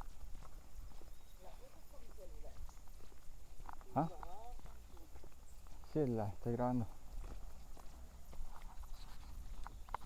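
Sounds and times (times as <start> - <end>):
footsteps on dirt trail: 0.0 - 10.0.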